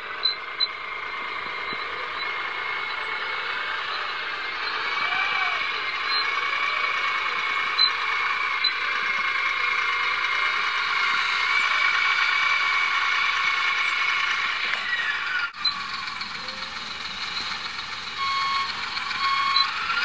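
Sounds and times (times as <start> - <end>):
model drivetrain whine: 0.0 - 20.0.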